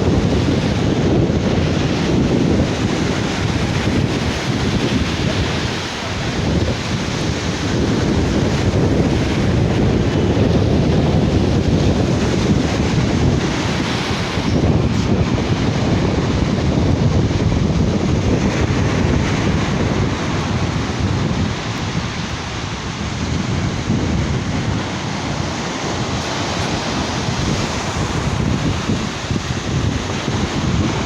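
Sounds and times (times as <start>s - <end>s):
sea waves washing on beach: 0.0s - 31.0s
wind buffeting microphone: 0.0s - 31.0s.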